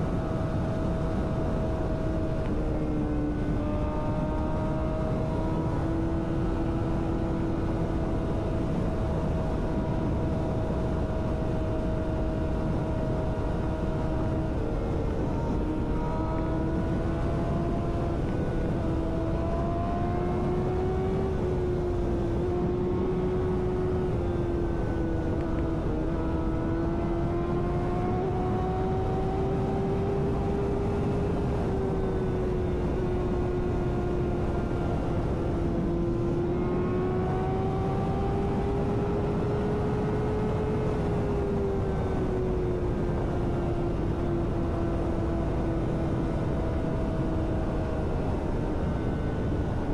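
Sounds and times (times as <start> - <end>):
wind and road rush: 0.0 - 49.9.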